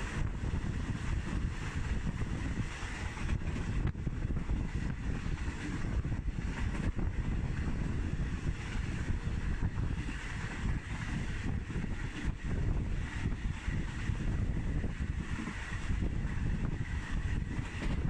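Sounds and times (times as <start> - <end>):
train rumbling on track: 0.0 - 18.0
wind buffeting microphone: 0.0 - 18.0.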